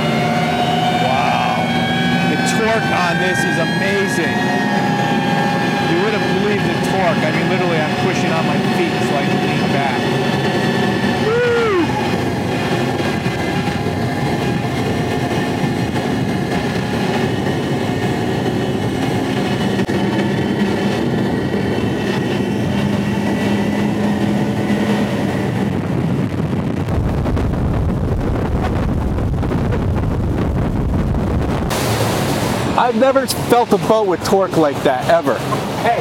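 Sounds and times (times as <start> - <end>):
outboard engines droning: 0.0 - 36.0
wind and water rushing: 0.0 - 36.0
wind buffeting microphone: 0.0 - 36.0.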